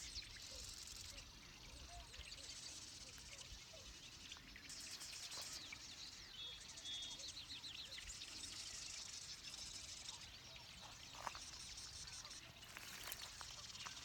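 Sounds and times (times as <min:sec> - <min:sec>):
wrens chattering in rattling trills: 0:00.0 - 0:14.0.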